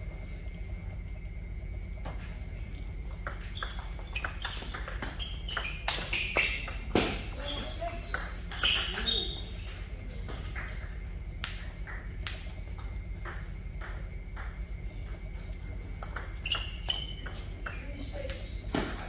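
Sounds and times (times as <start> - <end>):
table tennis balls clicking: 2.0 - 19.0.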